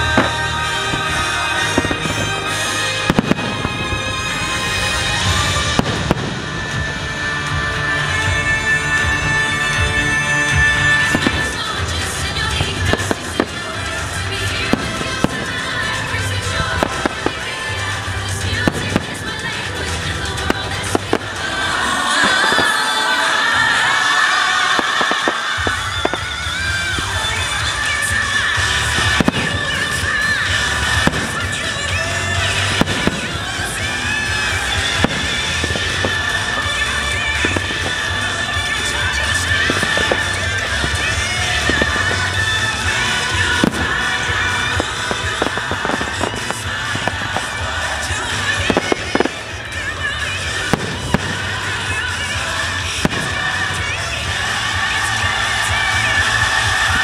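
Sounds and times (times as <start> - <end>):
fireworks bangs: 0.0 - 57.0
music playing: 0.0 - 57.0.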